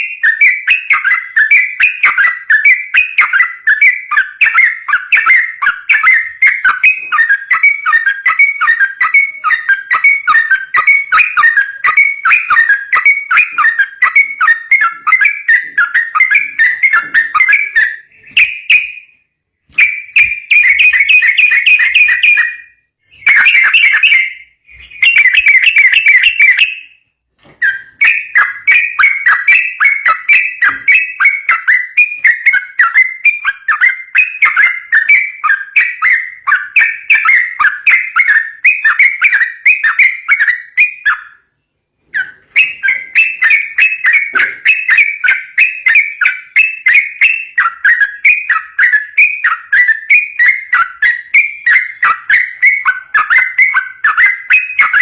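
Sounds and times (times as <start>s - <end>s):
bird rapid chirping song: 0.0s - 55.0s.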